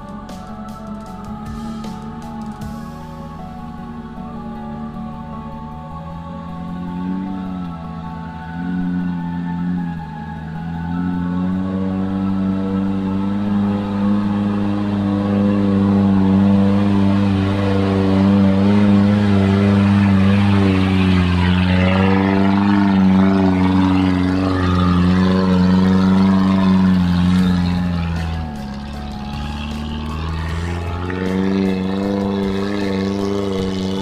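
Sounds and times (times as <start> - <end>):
engine droning under load: 0.0 - 34.0.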